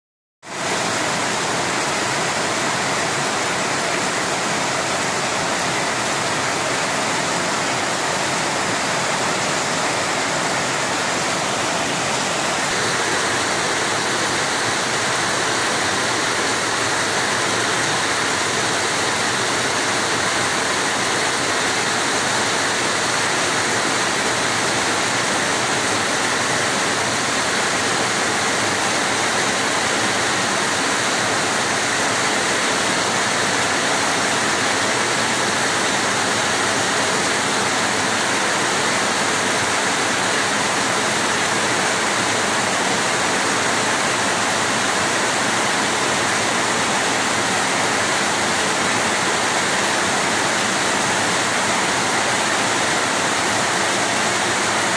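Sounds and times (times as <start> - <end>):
heavy rain pouring on trees: 0.4 - 54.9.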